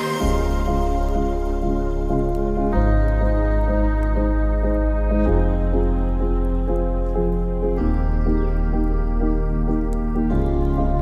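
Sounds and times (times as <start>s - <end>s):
calm new-age music: 0.0s - 11.0s.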